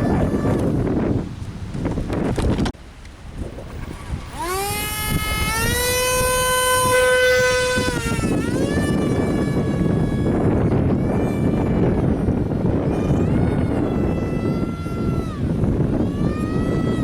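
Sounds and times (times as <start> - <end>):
electric ducted fan whine: 0.0 - 17.0
wind rumble on microphone: 0.0 - 17.0.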